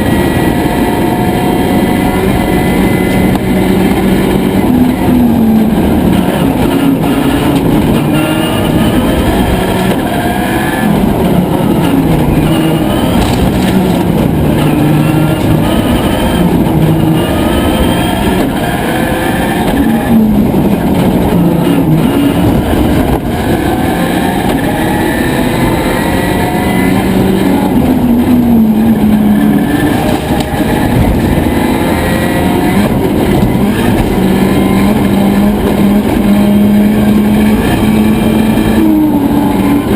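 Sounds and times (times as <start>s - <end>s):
rally car engine revving: 0.0s - 39.9s.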